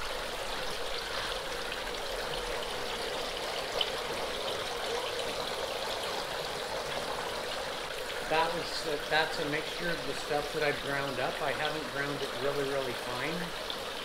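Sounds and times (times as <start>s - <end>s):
water splashing into tank: 0.0s - 14.0s.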